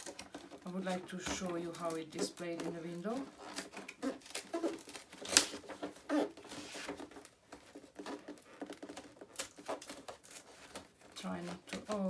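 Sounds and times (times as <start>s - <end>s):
cardboard being torn open: 0.0s - 12.0s.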